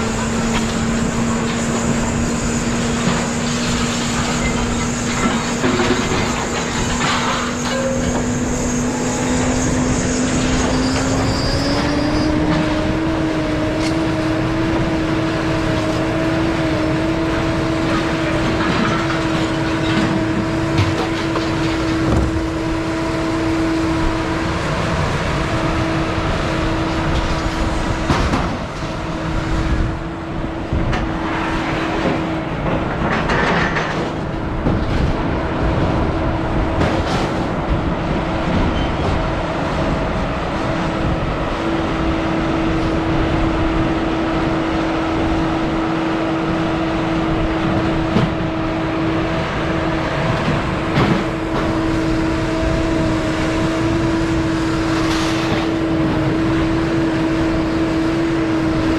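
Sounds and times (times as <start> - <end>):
road noise: 0.0 - 58.9
vehicle engine hum: 0.0 - 58.9.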